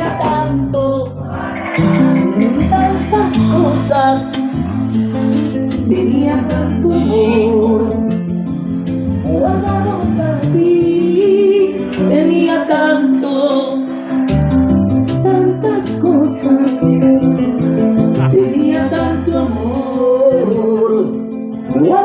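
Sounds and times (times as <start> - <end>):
person singing: 0.0 - 8.2, 9.2 - 14.2, 15.1 - 22.0
bass line: 0.0 - 12.9, 14.3 - 21.2
keyboard: 0.0 - 22.0.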